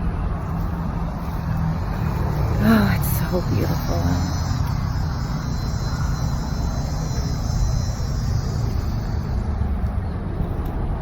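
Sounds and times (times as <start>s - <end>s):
faint outdoor hiss: 0.0s - 10.5s.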